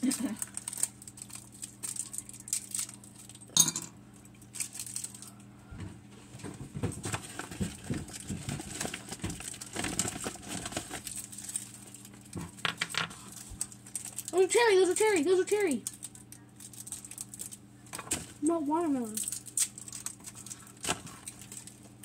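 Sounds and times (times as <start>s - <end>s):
plastic wrappers crinkling: 0.0s - 3.5s, 4.2s - 5.5s, 7.0s - 22.0s
candies clicking and clinking: 0.0s - 3.7s, 4.4s - 5.3s, 7.2s - 18.3s, 19.0s - 22.0s.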